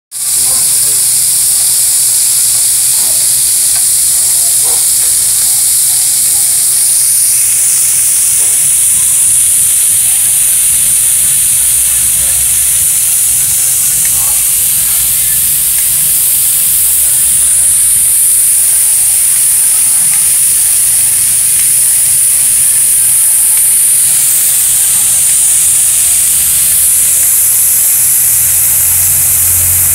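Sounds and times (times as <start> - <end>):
meat sizzling on a griddle: 0.2 - 29.9.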